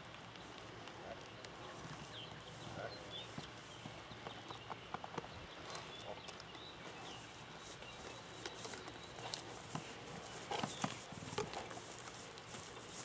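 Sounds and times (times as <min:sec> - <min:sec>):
hoof thuds on grass: 0:00.0 - 0:13.0.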